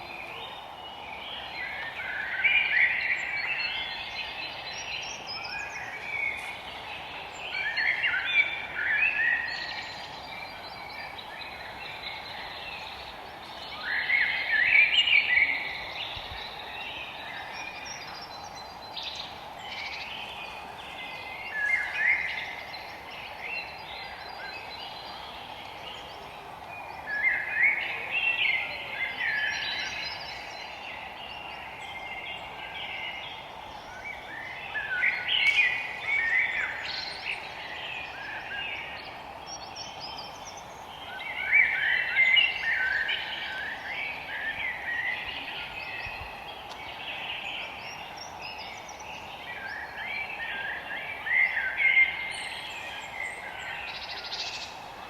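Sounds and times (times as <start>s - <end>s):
songbirds chirping and warbling: 0.0s - 55.0s
steady background hiss: 0.0s - 55.0s.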